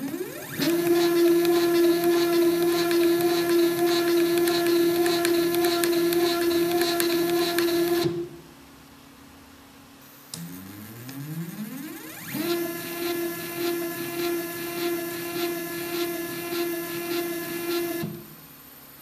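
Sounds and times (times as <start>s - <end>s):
stepper motor whine: 0.0s - 8.4s, 10.1s - 18.6s.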